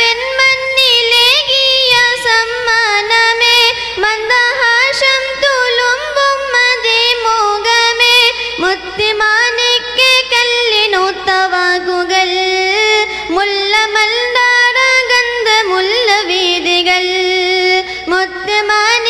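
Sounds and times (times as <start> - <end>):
girl singing into a microphone: 0.0 - 19.0.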